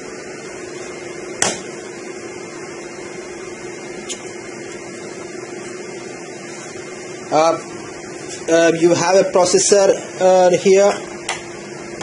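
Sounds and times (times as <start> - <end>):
fan noise with low hum: 0.0 - 12.0.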